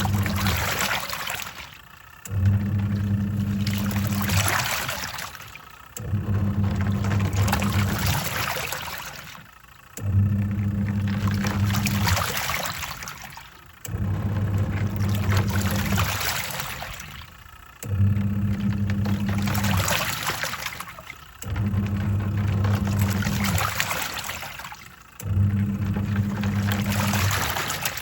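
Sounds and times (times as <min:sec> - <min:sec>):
water swishing: 0:00.0 - 0:01.9, 0:02.5 - 0:09.5, 0:10.3 - 0:28.0
washing machine motor humming: 0:00.0 - 0:28.0.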